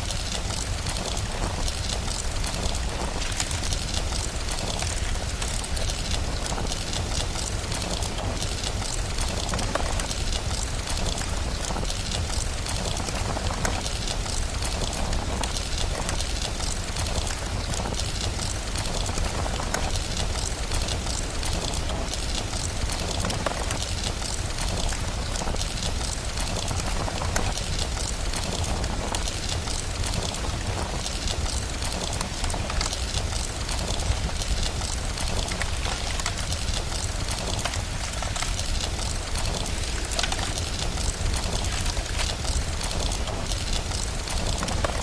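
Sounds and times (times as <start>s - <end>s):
constant low rumble: 0.0s - 45.0s
crackling fire: 0.0s - 45.0s
steady rain: 0.0s - 45.0s.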